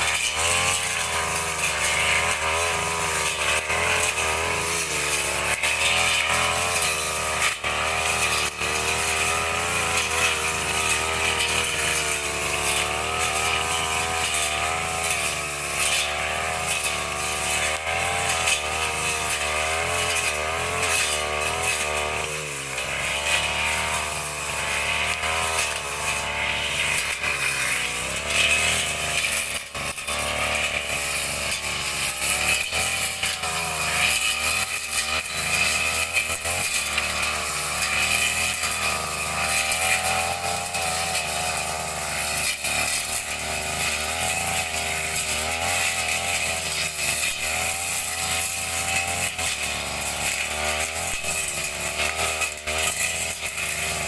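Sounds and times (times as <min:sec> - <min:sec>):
petrol brush cutter running: 0:00.0 - 0:54.0.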